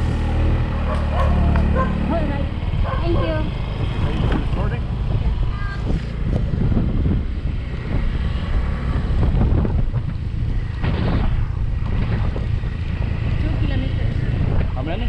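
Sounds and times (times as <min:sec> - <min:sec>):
motorbike engine running: 0:00.0 - 0:15.0
wind buffeting microphone: 0:00.0 - 0:15.0.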